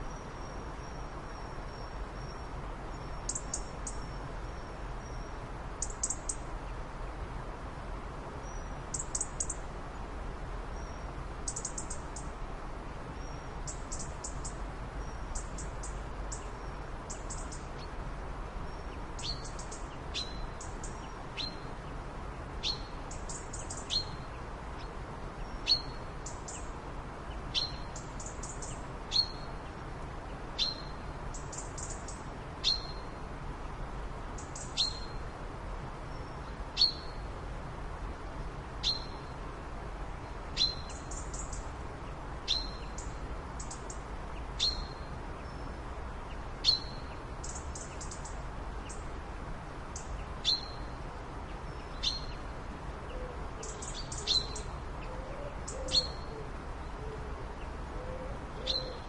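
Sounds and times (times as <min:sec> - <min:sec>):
steady background noise: 0:00.0 - 0:59.0.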